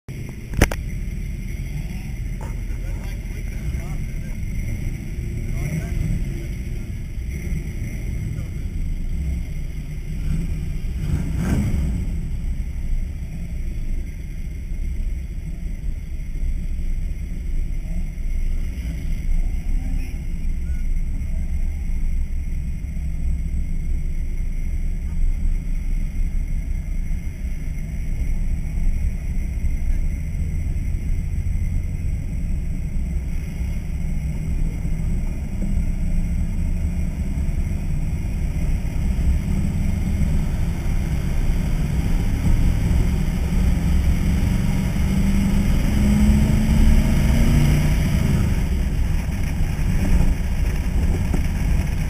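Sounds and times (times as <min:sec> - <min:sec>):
pickup truck engine rumble: 0:00.0 - 0:52.0.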